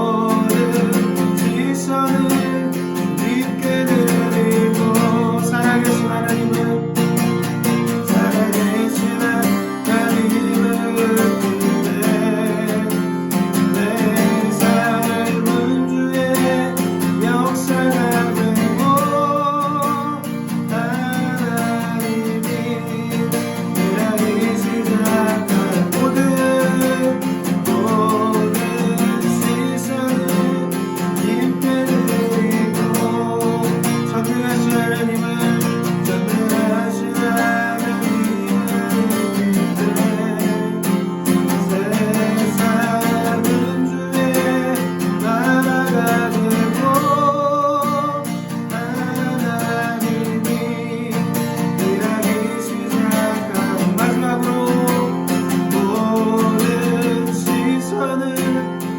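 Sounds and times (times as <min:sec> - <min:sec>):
person singing: 0:00.0 - 0:58.9
strummed acoustic guitar: 0:00.0 - 0:58.9.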